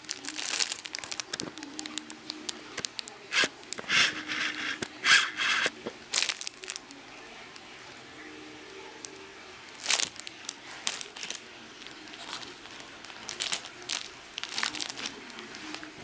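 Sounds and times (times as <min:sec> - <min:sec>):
plastic packaging crinkling: 0:00.0 - 0:08.0, 0:09.0 - 0:16.0.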